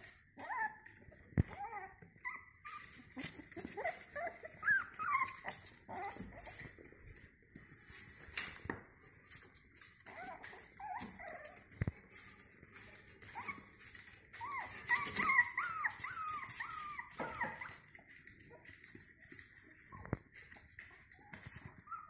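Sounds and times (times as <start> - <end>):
puppies whimpering and squeaking: 0.0 - 8.2, 9.5 - 22.0.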